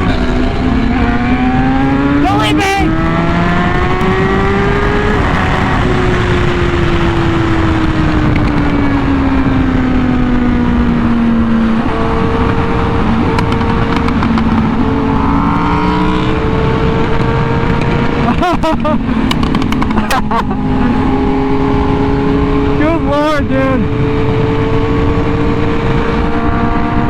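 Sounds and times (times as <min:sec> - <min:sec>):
motorcycle engine at high speed: 0:00.0 - 0:27.0
wind rush: 0:00.0 - 0:27.0.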